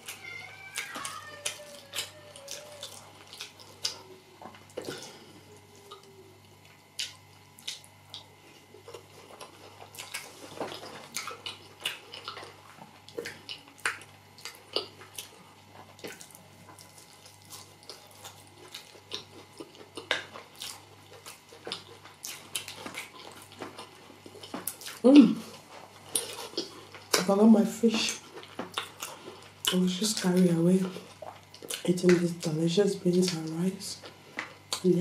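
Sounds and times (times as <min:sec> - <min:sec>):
person chewing wet food: 0:00.0 - 0:32.5, 0:33.2 - 0:35.0
faint low hum: 0:00.0 - 0:35.0.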